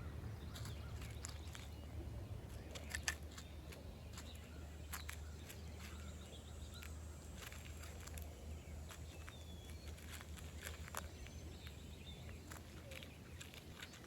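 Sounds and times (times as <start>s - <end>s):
chipmunk nibbling food: 0.5s - 14.0s.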